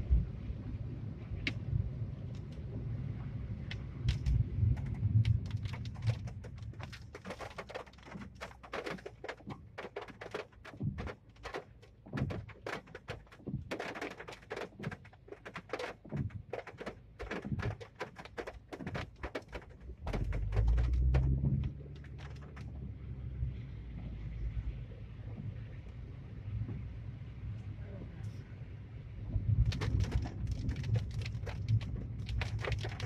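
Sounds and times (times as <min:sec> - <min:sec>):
low road rumble: 0:00.0 - 0:33.0
raindrops tapping on car roof: 0:00.1 - 0:28.1, 0:28.7 - 0:33.0.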